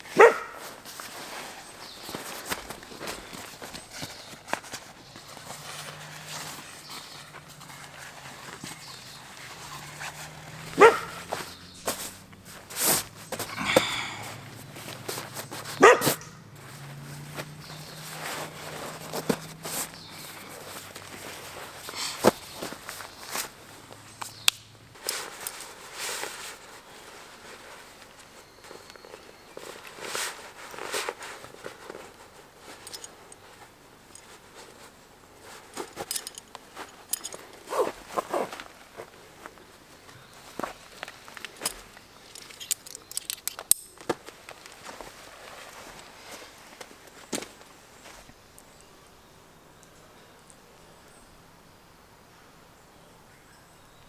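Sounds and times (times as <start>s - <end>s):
rustling and scuffing: 0.0s - 49.0s.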